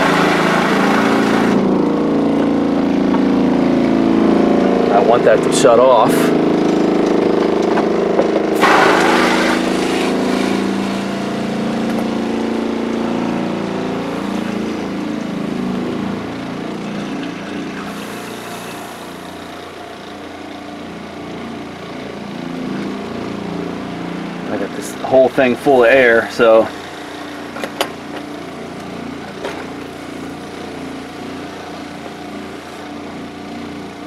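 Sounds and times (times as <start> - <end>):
water pump running: 0.0 - 34.0.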